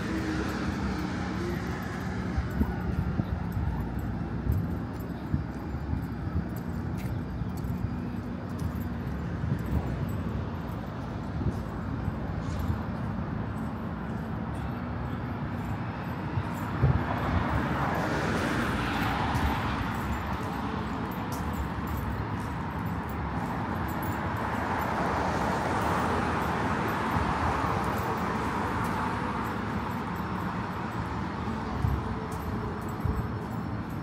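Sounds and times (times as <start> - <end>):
traffic engine hum: 0.0 - 34.0.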